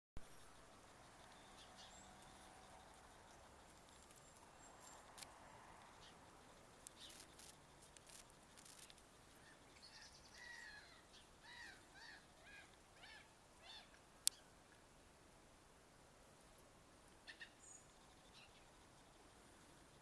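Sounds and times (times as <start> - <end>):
faint bird calls: 0.2 - 14.6, 17.2 - 20.0.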